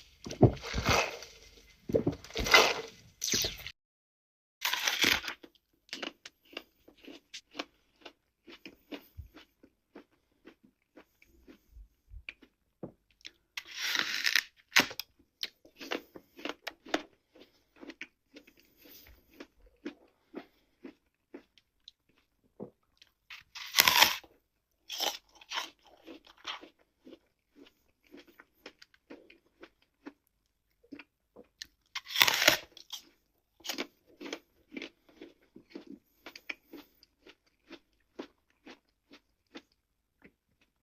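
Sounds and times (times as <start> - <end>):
crunchy food being chewed: 0.0 - 3.7, 4.6 - 40.8.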